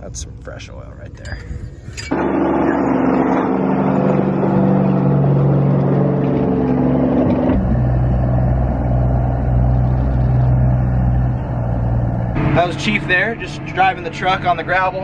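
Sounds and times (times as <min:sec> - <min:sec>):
diesel truck engine running: 0:02.1 - 0:15.0.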